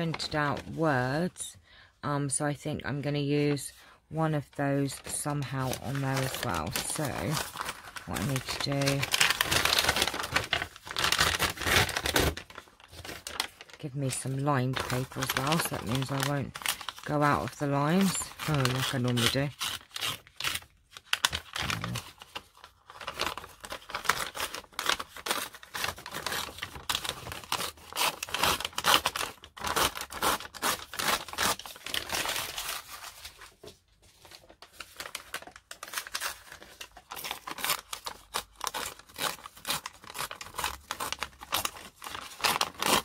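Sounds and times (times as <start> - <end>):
paper rustling and tearing: 4.8 - 43.0.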